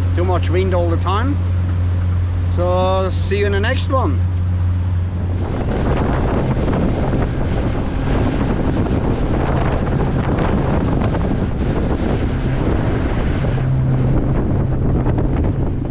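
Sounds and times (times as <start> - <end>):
boat motor humming: 0.0 - 15.9
wind buffeting microphone: 0.0 - 15.9.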